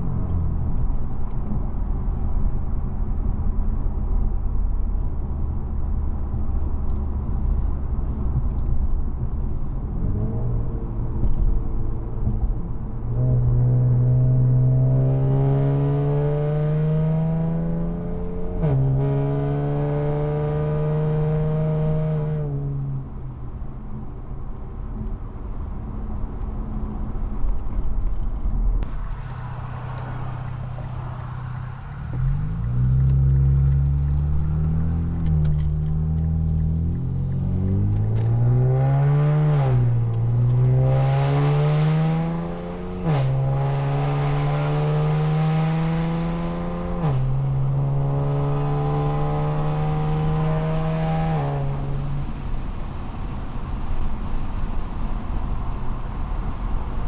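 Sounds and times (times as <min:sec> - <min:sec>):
car exhaust droning and accelerating: 0:00.0 - 0:57.0.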